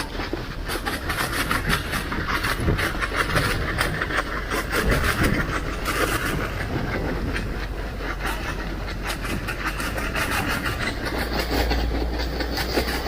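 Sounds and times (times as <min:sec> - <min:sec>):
low rumble: 0:00.0 - 0:12.7.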